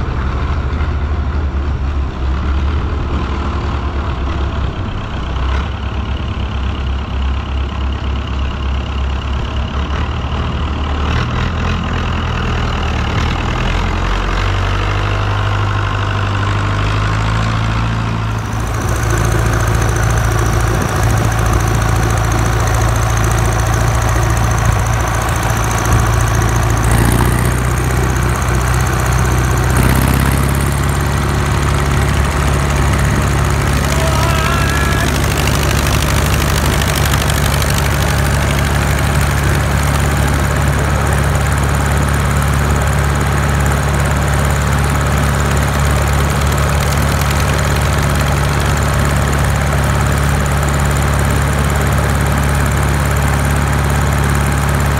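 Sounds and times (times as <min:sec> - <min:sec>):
engine idling with knocking: 0:00.0 - 0:54.9.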